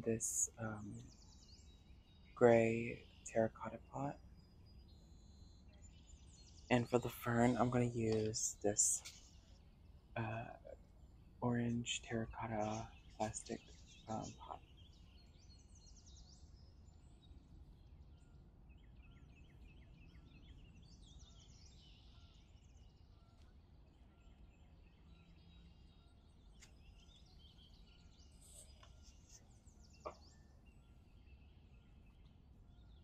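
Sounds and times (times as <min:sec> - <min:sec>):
birds chirping and trilling: 0:00.0 - 0:33.0.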